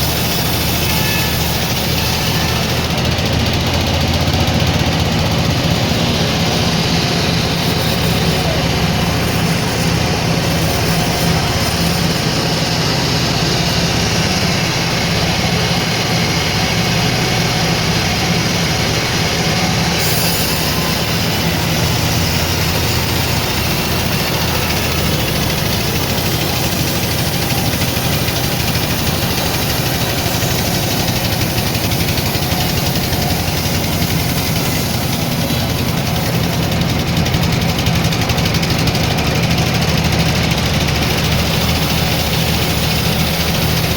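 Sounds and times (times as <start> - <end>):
sawmill machinery humming: 0.0 - 43.9.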